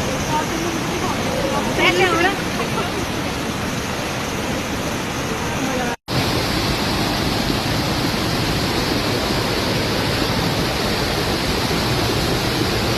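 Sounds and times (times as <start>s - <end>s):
floodwater rushing: 0.0s - 12.9s.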